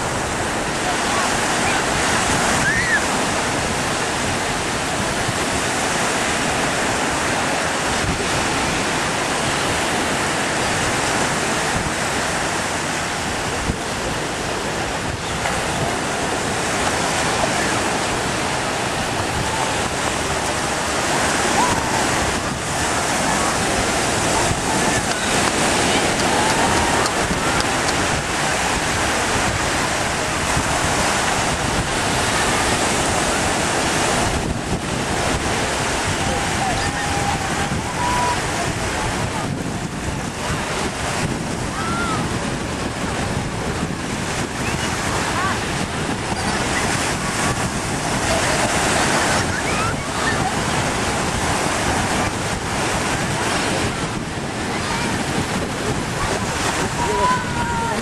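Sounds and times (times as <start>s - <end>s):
sea surf: 0.0s - 58.0s
wind on microphone: 0.0s - 58.0s.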